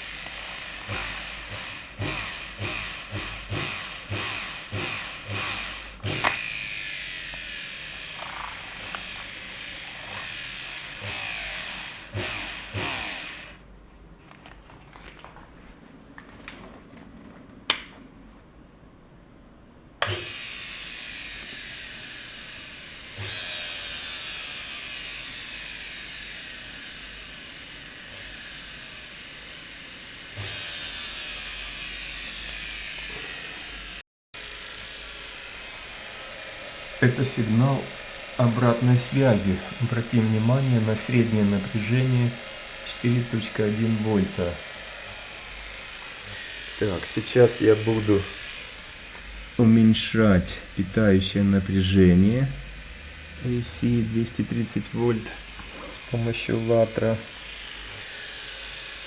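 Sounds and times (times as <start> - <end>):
motor surging and running: 0.0 - 13.6, 20.0 - 59.0.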